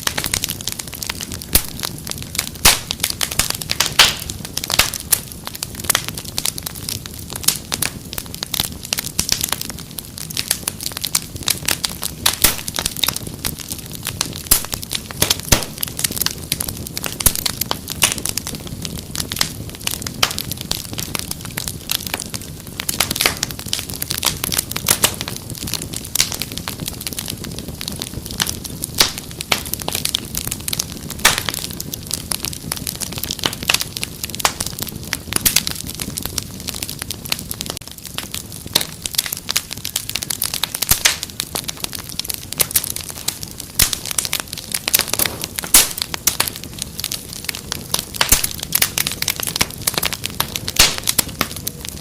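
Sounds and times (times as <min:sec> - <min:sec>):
flames rushing: 0:00.0 - 0:52.0
wood fire crackling: 0:00.0 - 0:52.0.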